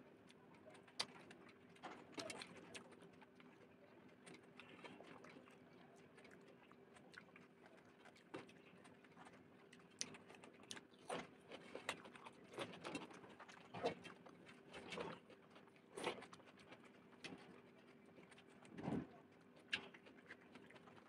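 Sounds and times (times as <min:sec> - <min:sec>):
chewing and wet mouth noises: 0:00.1 - 0:21.0.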